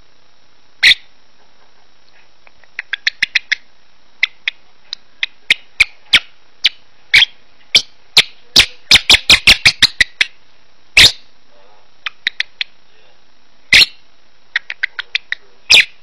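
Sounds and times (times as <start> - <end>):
bird chirping: 0.8 - 10.4, 11.0 - 11.4, 12.0 - 12.8, 13.7 - 16.0.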